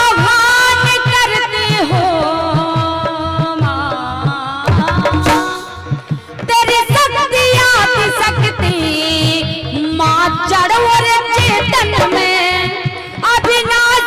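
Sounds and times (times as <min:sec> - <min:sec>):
dholak drum beat: 0:00.0 - 0:14.0
harmonium melody: 0:00.0 - 0:14.0.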